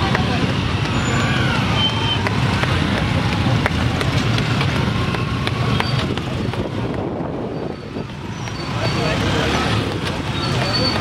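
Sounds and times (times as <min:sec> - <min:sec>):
motorcycles riding past: 0:00.0 - 0:11.0
voices: 0:00.0 - 0:11.0.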